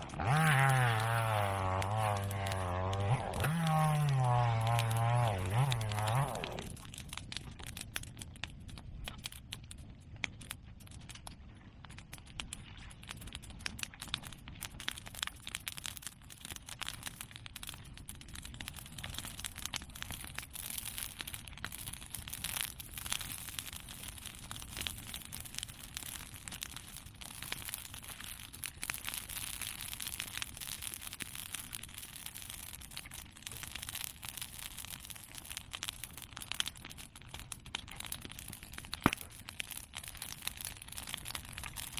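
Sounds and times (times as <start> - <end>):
bonfire crackling: 0.0 - 41.9.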